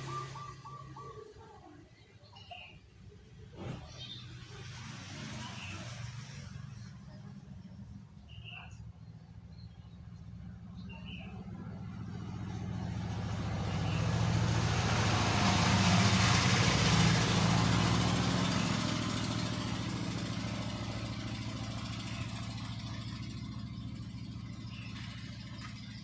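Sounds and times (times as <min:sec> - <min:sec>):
vehicle driving past: 0:00.0 - 0:01.5, 0:03.4 - 0:07.9, 0:10.0 - 0:26.0.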